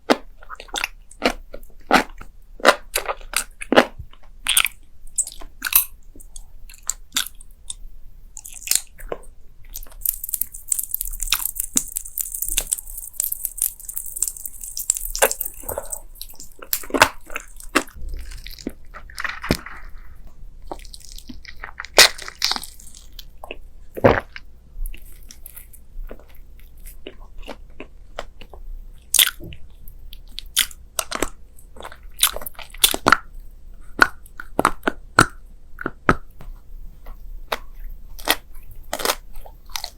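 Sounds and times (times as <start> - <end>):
chewing crunchy food: 0.0 - 7.8, 8.4 - 36.4, 37.0 - 39.9.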